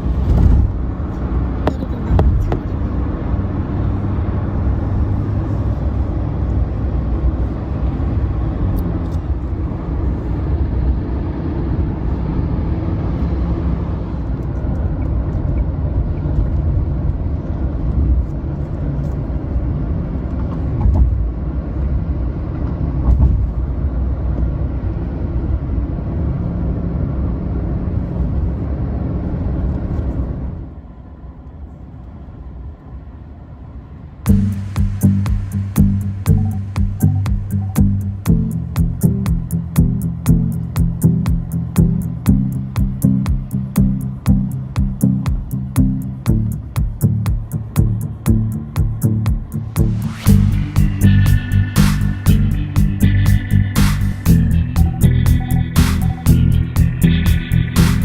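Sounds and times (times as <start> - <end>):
vehicle road and engine rumble: 0.0 - 58.0.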